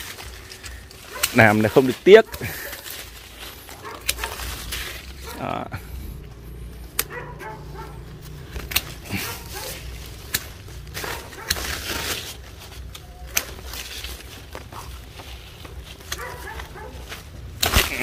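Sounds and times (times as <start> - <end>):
leaves and twigs rustling: 0.0 - 18.0
pruning shears snipping: 0.0 - 18.0.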